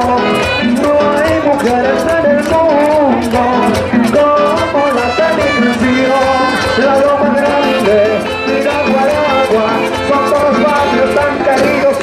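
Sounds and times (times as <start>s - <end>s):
person singing: 0.0s - 12.0s
steady percussion: 0.0s - 12.0s.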